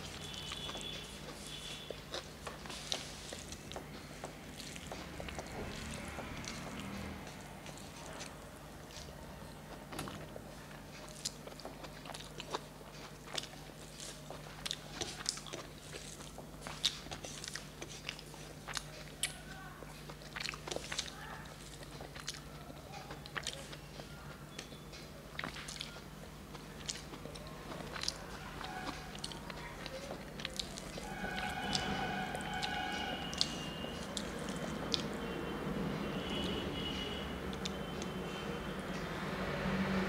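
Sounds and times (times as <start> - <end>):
chewing with wet mouth clicks: 0.0 - 39.8.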